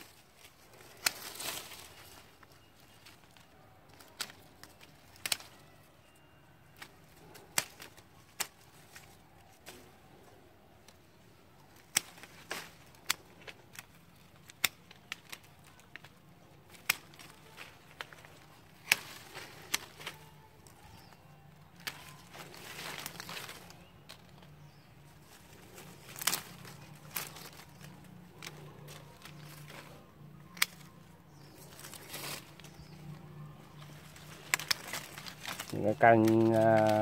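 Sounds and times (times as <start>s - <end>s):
leaves rustling: 0.0s - 37.0s
pruning shears snipping branches: 0.0s - 37.0s.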